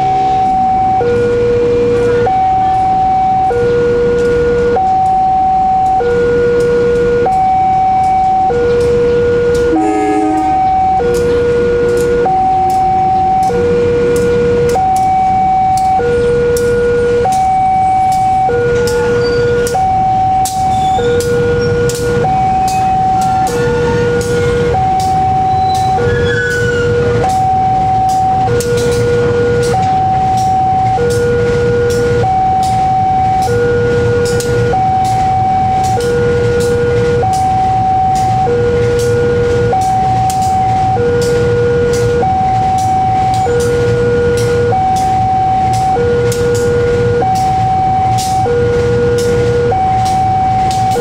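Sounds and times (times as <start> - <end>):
diesel locomotive rumbling: 0.0 - 51.0
level crossing alarm two-note tone: 0.0 - 51.0
traffic noise: 0.0 - 51.0.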